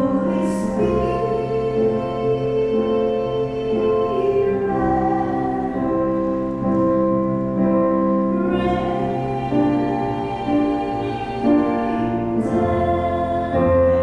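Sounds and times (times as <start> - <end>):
worship song through pa system: 0.0 - 14.0.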